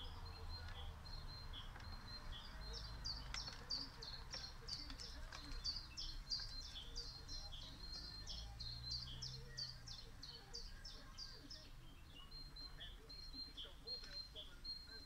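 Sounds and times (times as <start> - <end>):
songbird whistling: 0.0 - 15.0.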